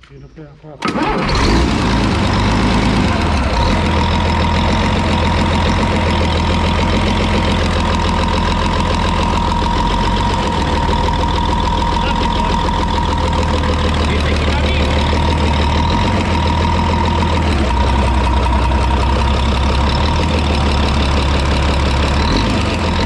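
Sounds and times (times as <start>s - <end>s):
diesel engine idling: 0.8s - 23.0s.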